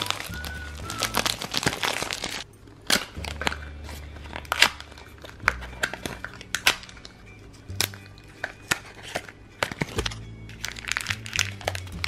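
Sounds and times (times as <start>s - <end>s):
cardboard crinkling and tearing: 0.0s - 7.2s, 8.6s - 12.0s.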